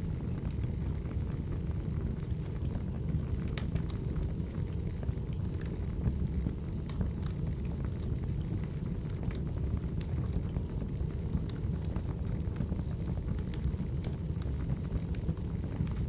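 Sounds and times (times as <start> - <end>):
low rumble of fire: 0.0 - 16.0
wood fire crackling and popping: 0.0 - 16.0.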